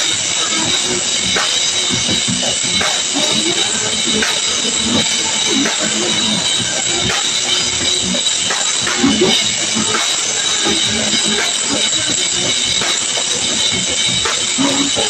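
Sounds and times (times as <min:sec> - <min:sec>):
drum kit hits with cymbals: 0:00.0 - 0:15.0.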